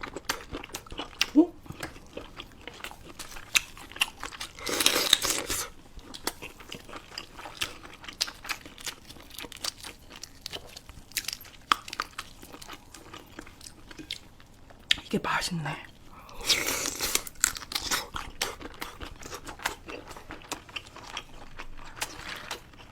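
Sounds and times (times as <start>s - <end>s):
person chewing crunchy food: 0.0s - 15.0s, 16.0s - 22.9s.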